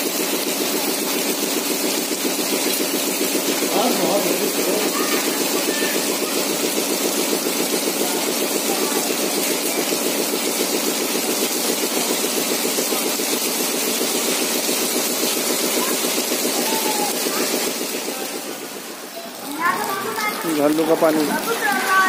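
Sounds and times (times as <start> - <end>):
hail and rain on pavement: 0.0 - 22.0
low fast throbbing: 0.3 - 19.2.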